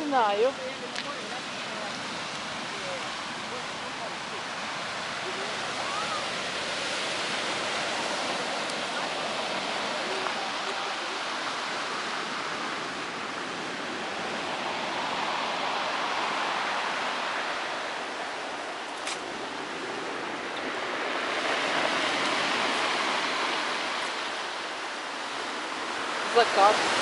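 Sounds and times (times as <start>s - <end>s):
surf washing up a pebble beach: 0.0s - 27.0s.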